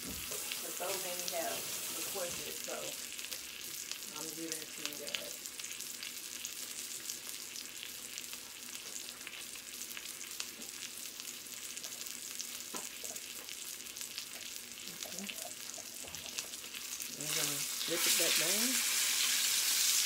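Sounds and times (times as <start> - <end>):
fish sizzling in hot oil: 0.0 - 20.0
oil crackling and popping: 0.0 - 20.0.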